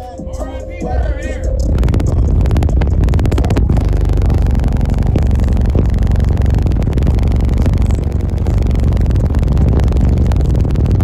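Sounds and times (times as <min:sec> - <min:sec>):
very loud deep bass music: 0:00.0 - 0:11.0.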